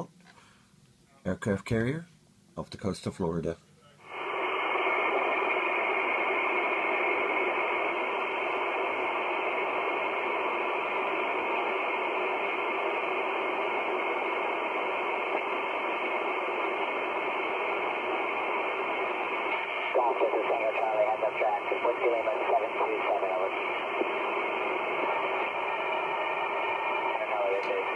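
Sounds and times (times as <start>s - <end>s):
radio static hiss: 3.9s - 27.9s.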